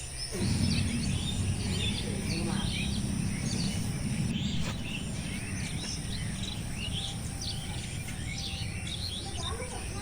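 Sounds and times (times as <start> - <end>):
low background rumble: 0.3 - 9.8
high bird chirps: 0.4 - 9.8.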